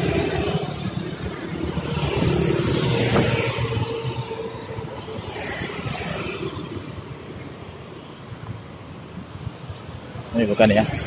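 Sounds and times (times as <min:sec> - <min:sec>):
cars and motorcycles passing: 0:00.0 - 0:11.0.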